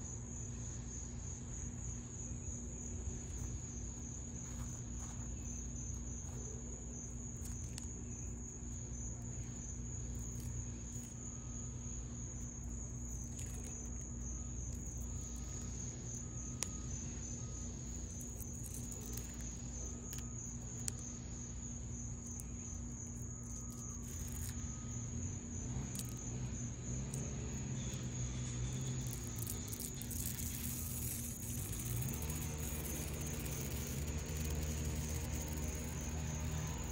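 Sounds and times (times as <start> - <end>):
insects trilling: 0.0 - 36.9.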